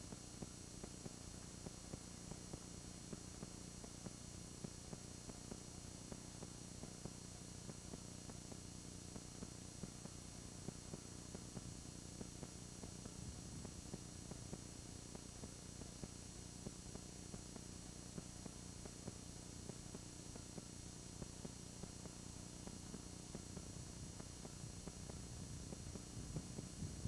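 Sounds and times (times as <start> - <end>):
faint hum and hiss: 0.0 - 27.0.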